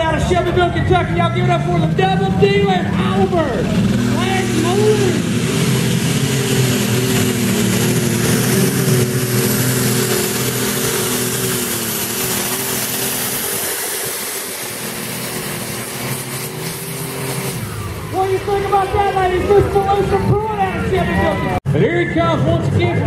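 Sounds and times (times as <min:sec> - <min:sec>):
tractor engine running hard: 0:00.0 - 0:23.0.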